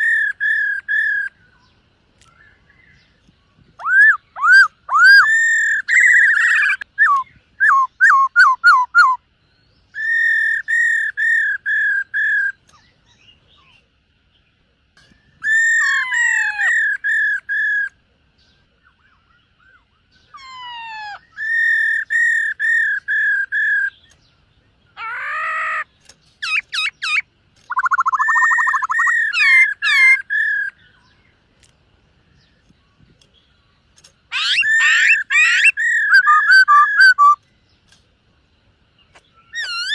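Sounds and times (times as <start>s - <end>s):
bird whistling song: 0.0s - 13.8s, 15.0s - 31.4s, 34.0s - 37.5s, 39.0s - 39.9s.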